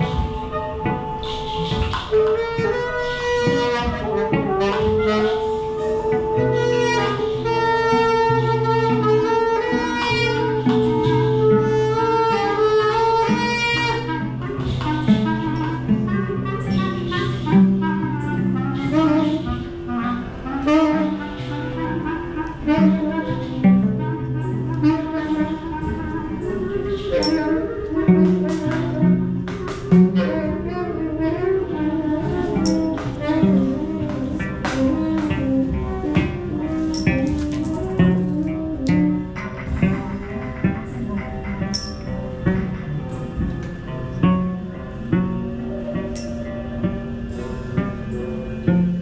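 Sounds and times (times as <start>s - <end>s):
instruments improvising together: 0.0s - 49.0s.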